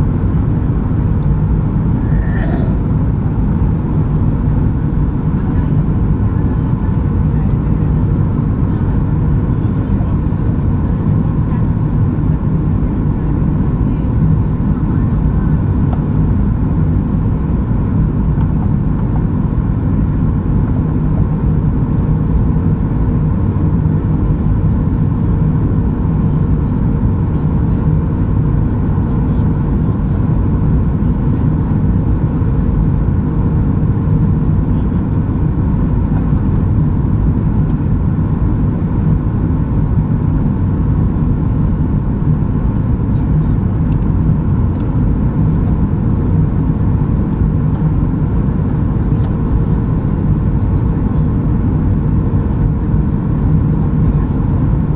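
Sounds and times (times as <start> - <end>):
airplane cabin engine noise: 0.0 - 54.9
faint steady hum: 0.0 - 54.9.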